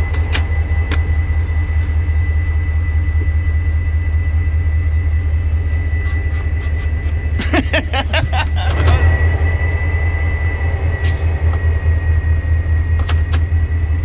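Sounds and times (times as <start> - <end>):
locomotive diesel engine rumbling: 0.0 - 14.0.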